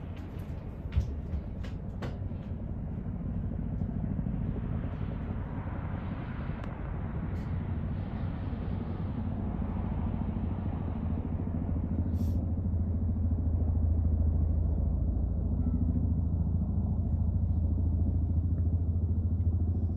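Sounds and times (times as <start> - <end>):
helicopter rotor beating: 0.0 - 19.9.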